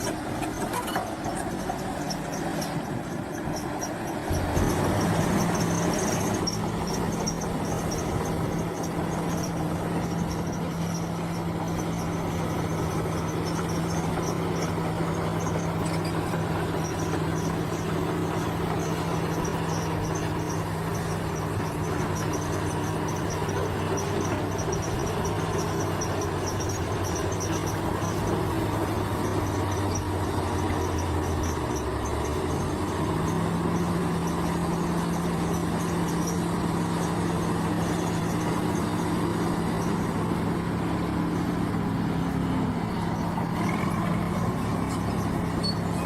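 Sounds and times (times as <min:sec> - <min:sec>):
heavy machine engine running: 0:00.0 - 0:46.0
insects chirping: 0:02.0 - 0:40.0.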